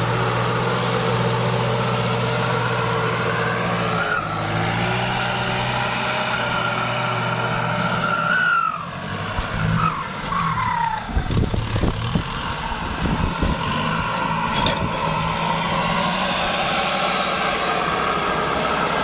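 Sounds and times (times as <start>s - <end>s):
diesel tractor engine running: 0.0s - 19.0s
turbocharger whine: 0.0s - 19.0s.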